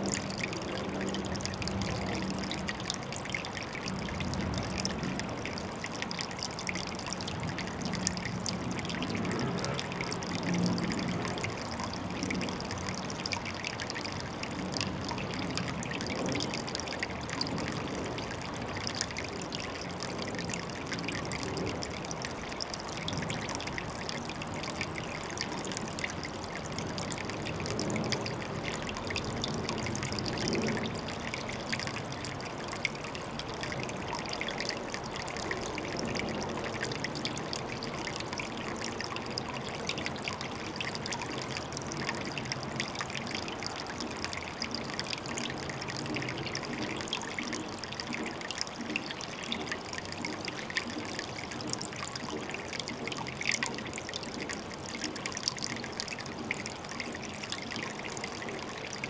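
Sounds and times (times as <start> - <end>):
small water splashes: 0.0 - 59.0
water trickling and pouring: 0.0 - 59.0.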